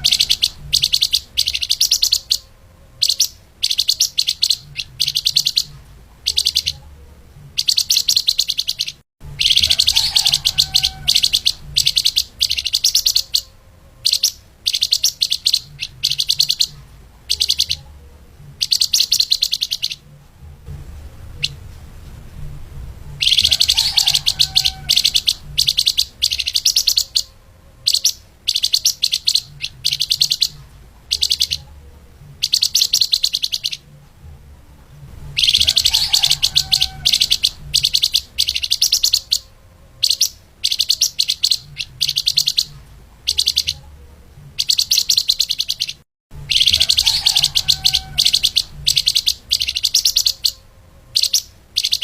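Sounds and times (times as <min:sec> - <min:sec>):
songbird singing fast trills: 0:00.0 - 0:06.9, 0:07.6 - 0:18.0, 0:18.6 - 0:20.0, 0:23.2 - 0:31.7, 0:32.4 - 0:33.9, 0:35.4 - 0:43.9, 0:44.6 - 0:52.0.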